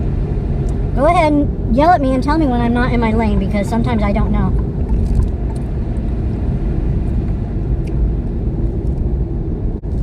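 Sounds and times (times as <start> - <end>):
car engine rumble: 0.0 - 10.0.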